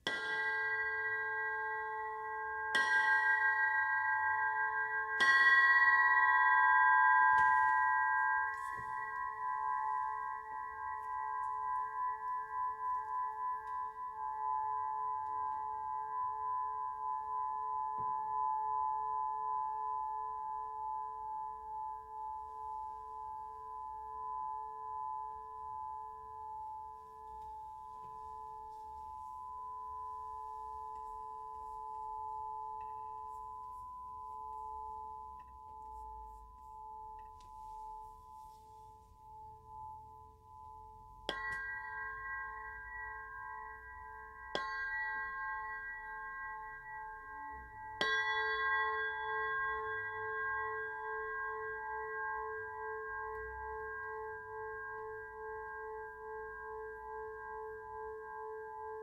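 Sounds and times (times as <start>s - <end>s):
crystal singing pyramid ringing: 0.0s - 59.0s.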